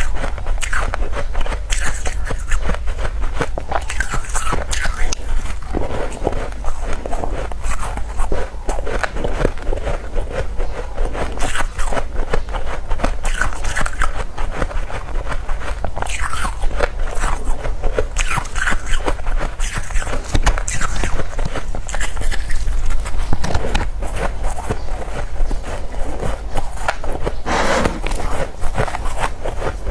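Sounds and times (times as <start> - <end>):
chewing crunchy frost: 0.0 - 29.9.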